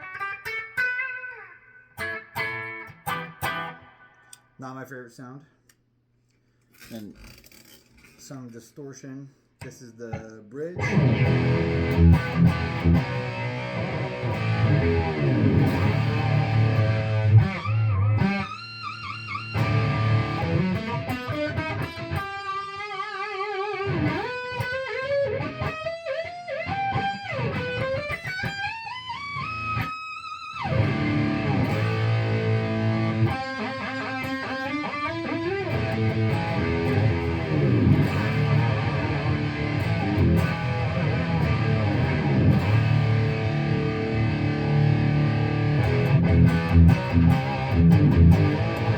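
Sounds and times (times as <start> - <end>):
distorted electric guitar chords: 0.0 - 4.2, 10.2 - 48.9
electric guitar lead line: 0.0 - 4.3, 10.8 - 48.9.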